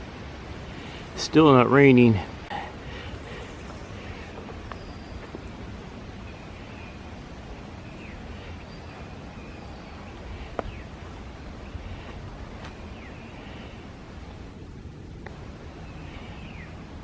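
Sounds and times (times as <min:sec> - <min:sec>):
birds chirping: 0:00.0 - 0:17.0
wind rumble on microphone: 0:02.3 - 0:17.0.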